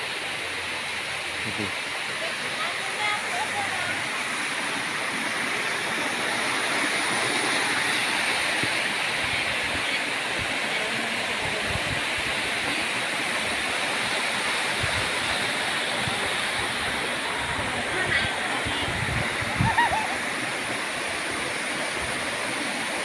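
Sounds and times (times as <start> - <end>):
small waterfall rushing: 0.0 - 23.0.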